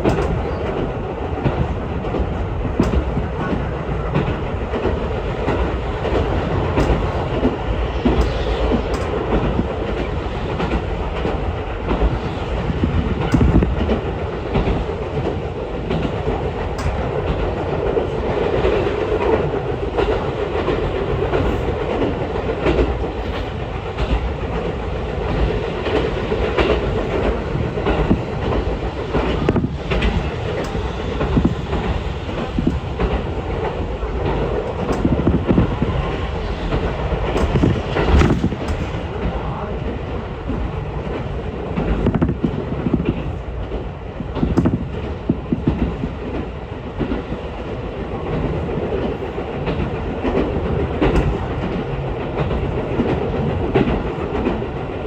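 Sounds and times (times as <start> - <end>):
train wheels rumbling: 0.0 - 55.0
wheels clicking over rail joints: 0.0 - 55.0.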